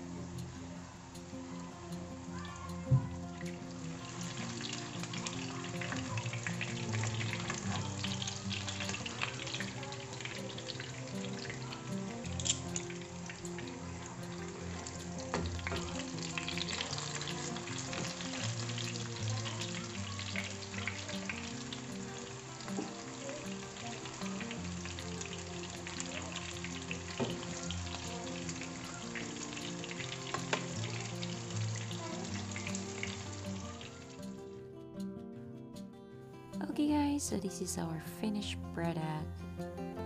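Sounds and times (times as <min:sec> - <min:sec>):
chicken sizzling in hot oil: 0:00.0 - 0:34.4
quiet background music: 0:00.0 - 0:40.0.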